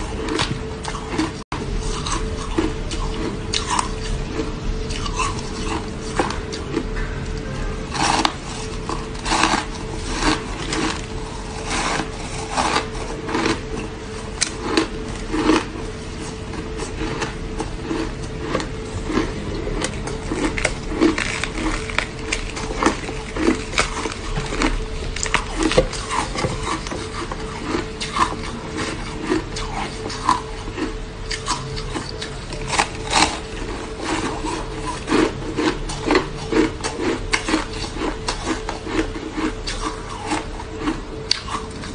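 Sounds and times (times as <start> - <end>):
ice being bitten and chewed: 0.0 - 41.9.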